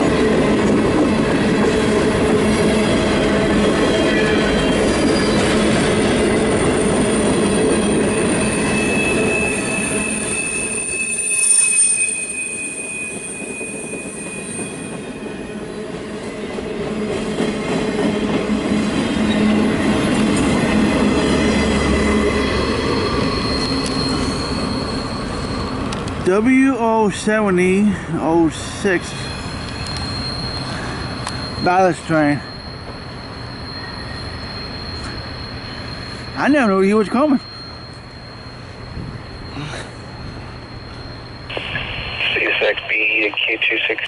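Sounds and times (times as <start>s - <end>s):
train rolling noise: 0.0s - 44.0s
train wheels squealing on rails: 0.0s - 44.0s.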